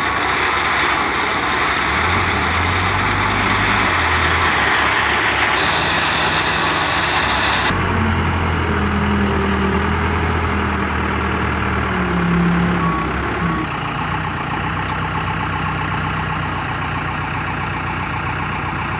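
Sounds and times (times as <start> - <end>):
heavy vehicle engine idling: 0.0 - 18.9.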